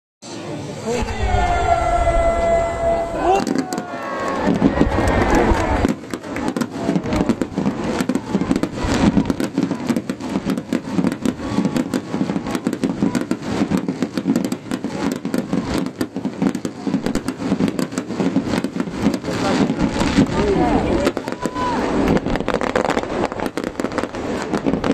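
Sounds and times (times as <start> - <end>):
fireworks crackling: 0.3 - 24.9.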